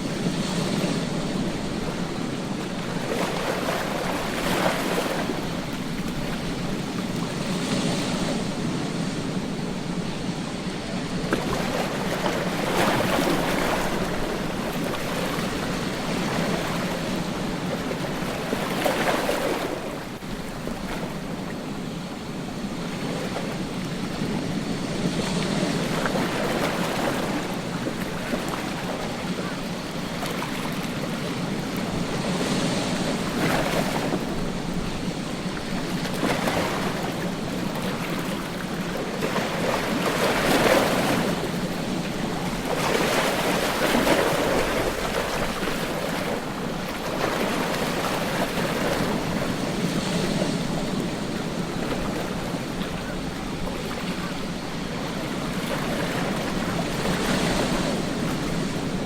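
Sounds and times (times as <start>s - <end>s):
ocean surf washing: 0.0s - 59.0s
waves breaking: 0.0s - 59.0s.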